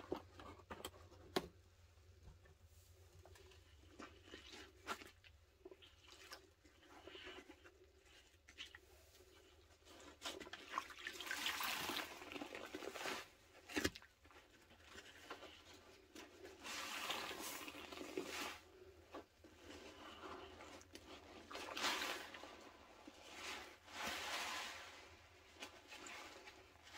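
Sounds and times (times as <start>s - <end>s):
sponges squelching in sudsy water: 3.3s - 26.9s.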